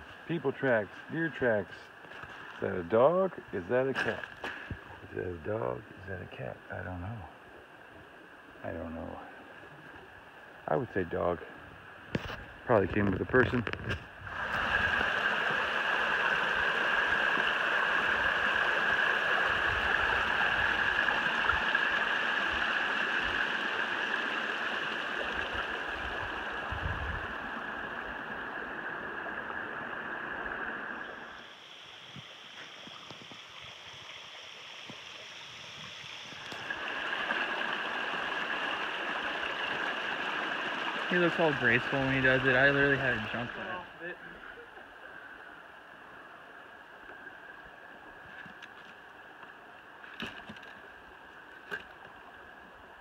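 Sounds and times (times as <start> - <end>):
creek water rushing over rocks: 0.0 - 53.0.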